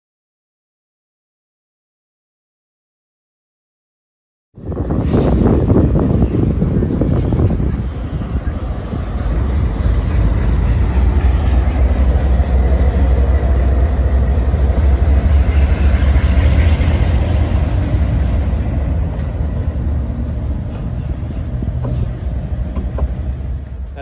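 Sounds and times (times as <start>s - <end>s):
heavy diesel engine rumble: 4.6s - 24.0s.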